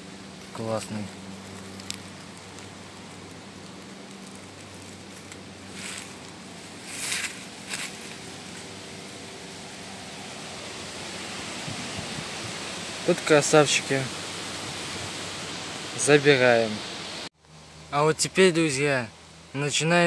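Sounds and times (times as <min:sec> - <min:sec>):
rustling grass and dry leaves: 0:00.0 - 0:18.6
steady outdoor hiss: 0:00.0 - 0:20.0.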